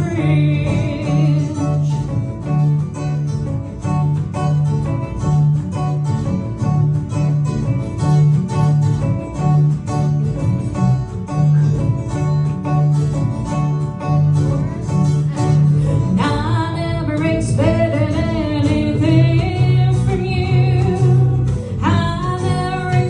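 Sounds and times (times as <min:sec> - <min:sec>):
acoustic guitar: 0:00.0 - 0:23.0.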